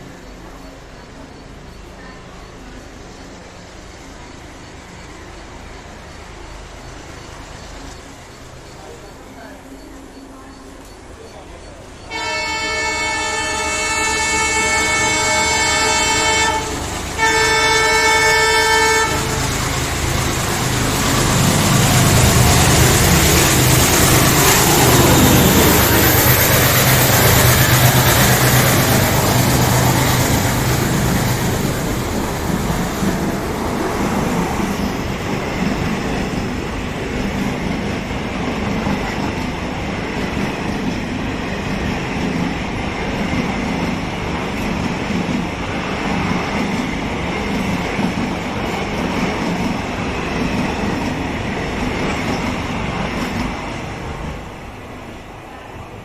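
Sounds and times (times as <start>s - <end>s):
diesel locomotive engine hum: 0.0s - 56.0s
train coaches clattering on rails: 0.0s - 56.0s.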